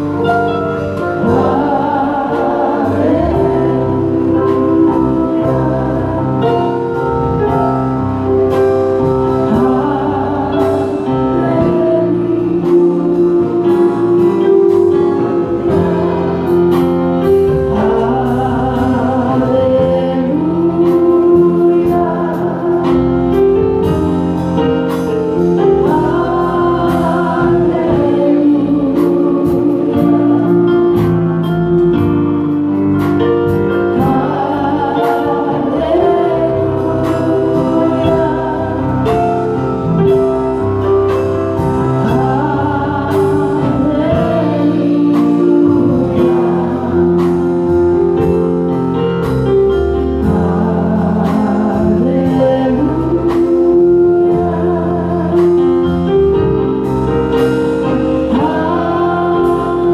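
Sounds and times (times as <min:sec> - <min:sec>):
gospel singing with instruments: 0:00.0 - 0:59.9
steady percussive beat: 0:00.0 - 0:59.9.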